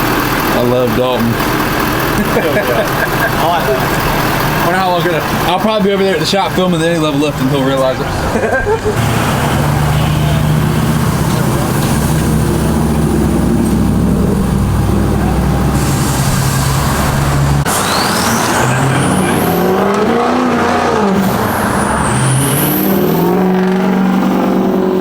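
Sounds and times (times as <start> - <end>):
high whine gliding: 0.0 - 25.0
truck engine idling and revving: 0.0 - 25.0.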